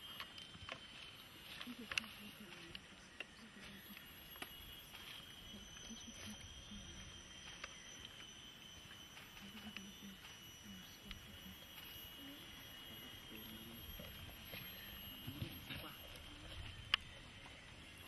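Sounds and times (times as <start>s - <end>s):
high-pitched hum: 0.0s - 18.0s.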